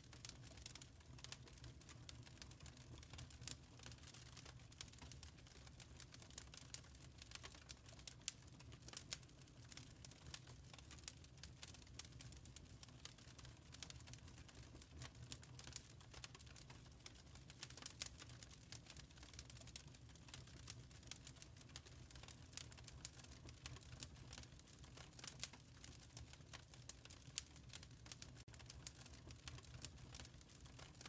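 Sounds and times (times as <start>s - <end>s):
faint wood fire crackling: 0.0s - 31.0s.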